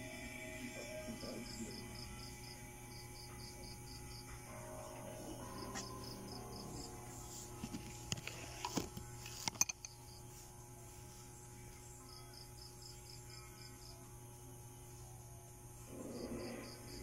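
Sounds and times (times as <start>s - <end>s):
faint steady hum: 0.0s - 17.0s
insect chirping: 0.0s - 17.0s.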